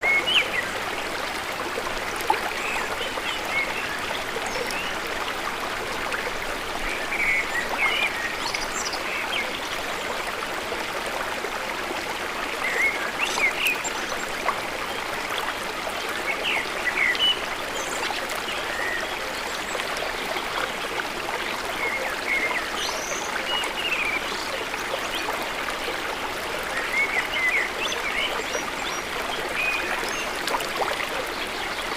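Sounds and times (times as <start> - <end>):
forest stream flowing: 0.0 - 31.9.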